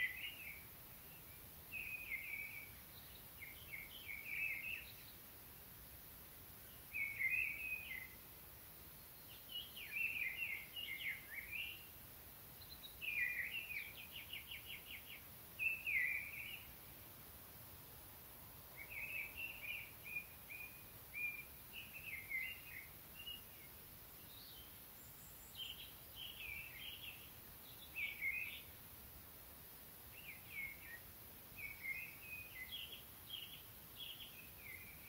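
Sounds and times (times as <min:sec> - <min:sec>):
faint steady background hiss: 0:00.0 - 0:35.0
songbird singing: 0:00.0 - 0:35.0.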